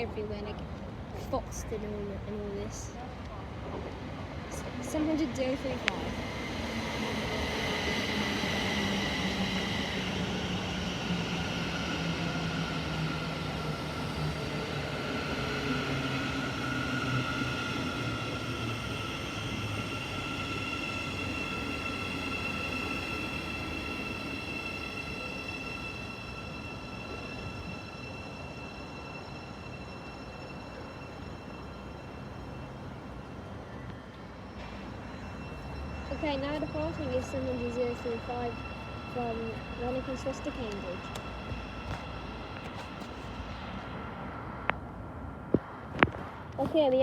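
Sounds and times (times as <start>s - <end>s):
train running noise: 0.0s - 47.0s
train motor whine: 4.7s - 44.0s.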